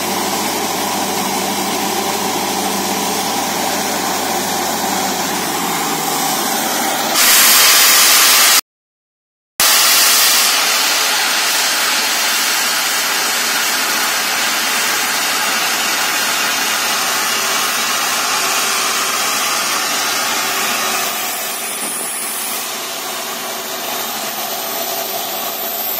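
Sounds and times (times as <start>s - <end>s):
drilling rig machinery: 0.0s - 8.6s, 9.6s - 25.9s
compressed air blasting slurry: 3.2s - 8.6s, 9.6s - 25.9s.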